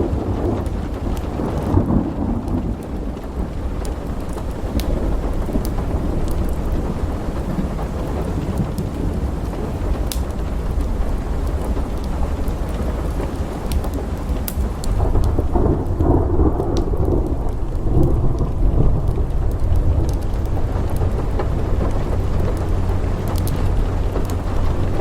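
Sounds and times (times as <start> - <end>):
sharp crackles: 0.0 - 25.0
steady rain: 0.0 - 25.0
thunder rumbling: 0.0 - 25.0.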